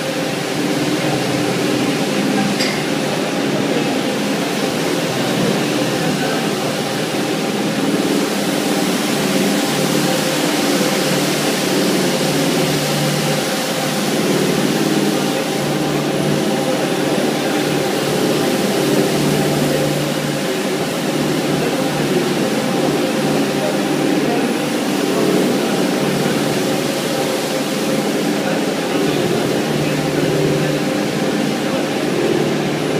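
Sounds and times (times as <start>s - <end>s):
carpet scrubbing wash noise: 0.0s - 32.9s
carpet washing machine humming: 0.0s - 32.9s.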